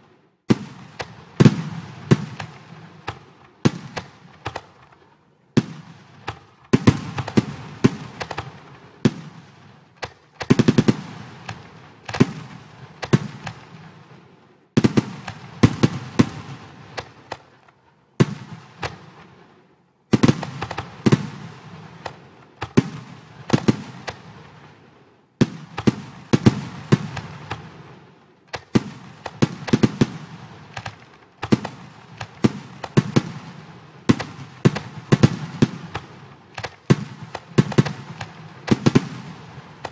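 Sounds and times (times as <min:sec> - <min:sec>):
fireworks bursting with bangs: 0:00.0 - 0:39.9
fireworks crackle: 0:00.0 - 0:39.9.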